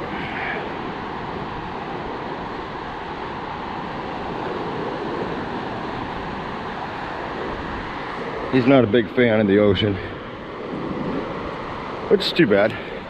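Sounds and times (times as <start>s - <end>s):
ocean surf rushing: 0.0s - 13.0s
wind: 0.0s - 13.0s.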